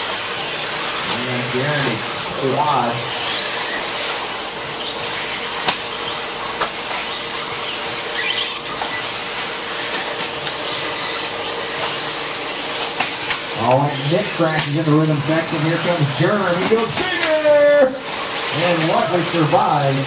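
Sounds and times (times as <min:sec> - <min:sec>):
high-pitched motor whine: 0:00.0 - 0:20.0.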